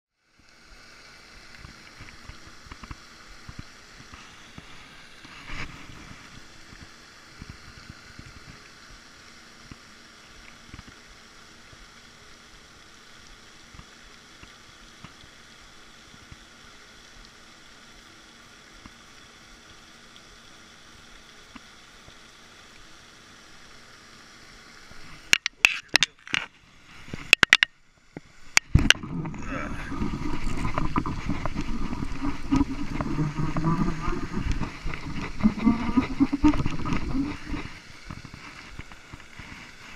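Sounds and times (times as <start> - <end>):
fountain spraying hiss: 0.2 - 39.9.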